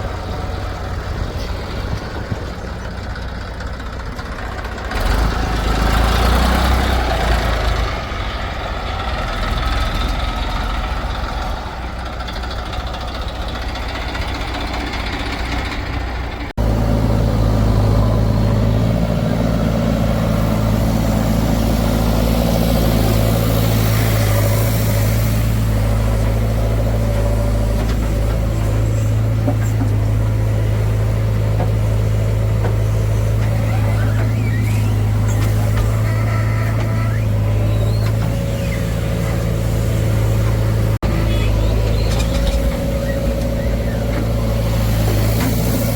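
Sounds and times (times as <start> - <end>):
heavy diesel machinery running: 0.0 - 45.9.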